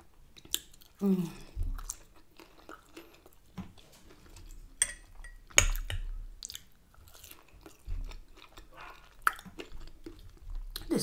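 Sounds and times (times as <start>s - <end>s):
person chewing and biting food: 0.3s - 10.9s.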